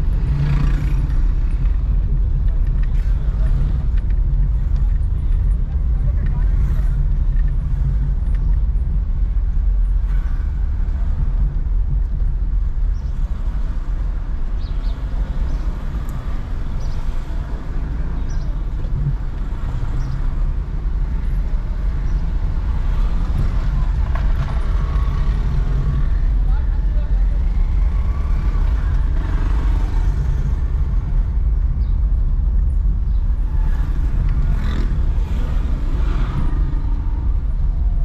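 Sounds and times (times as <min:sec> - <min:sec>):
car engine rumble: 0:00.0 - 0:38.0
road noise: 0:00.0 - 0:38.0.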